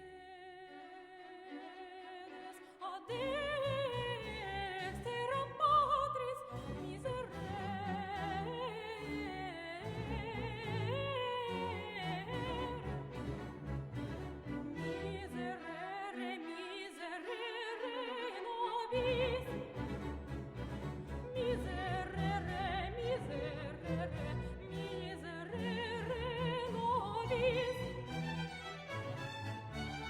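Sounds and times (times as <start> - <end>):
operatic singing with orchestra: 0.0 - 30.0.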